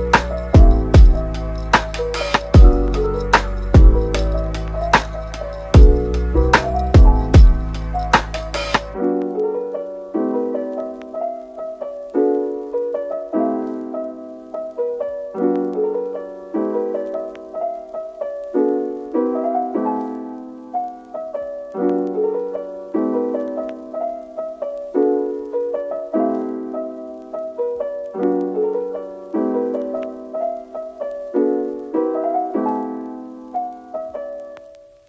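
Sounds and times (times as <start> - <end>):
gentle piano chords: 0.0 - 35.0.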